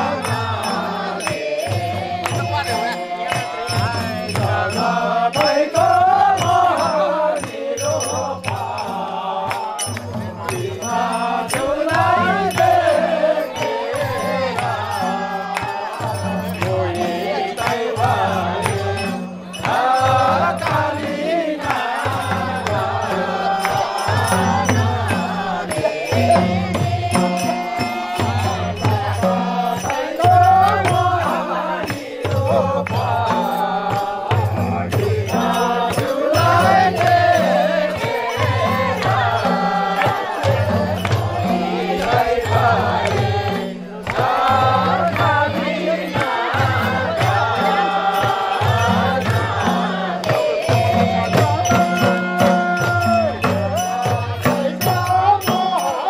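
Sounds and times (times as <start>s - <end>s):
group chant-like singing: 0.0s - 56.0s
hand drums beating: 0.0s - 56.0s.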